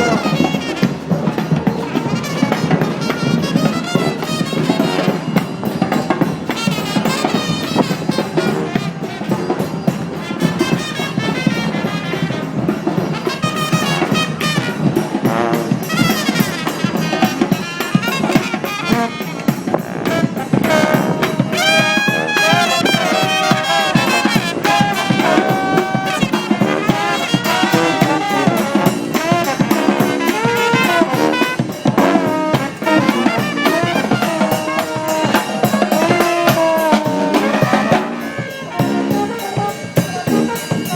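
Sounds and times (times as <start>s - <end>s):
brass band playing: 0.0s - 40.9s.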